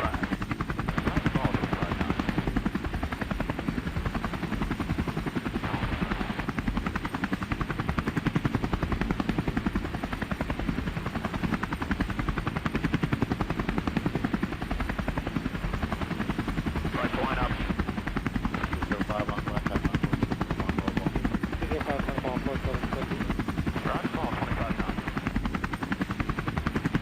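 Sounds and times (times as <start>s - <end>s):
helicopter engine noise: 0.0s - 27.0s
helicopter rotor beating: 0.0s - 27.0s.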